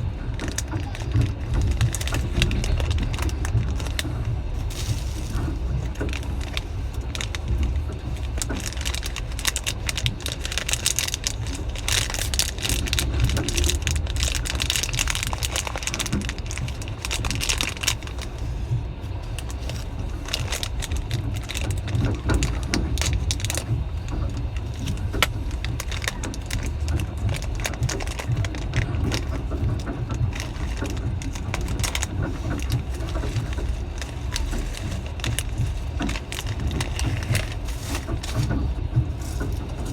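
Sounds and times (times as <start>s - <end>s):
train rattling and clicking: 0.0s - 39.9s
train rumbling: 0.0s - 39.9s.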